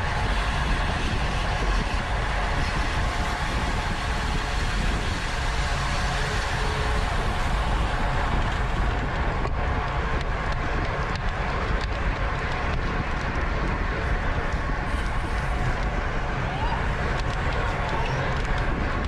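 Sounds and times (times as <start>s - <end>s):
bicycle tyre and drivetrain noise: 0.0s - 19.0s
wind rushing over microphone: 0.0s - 19.0s.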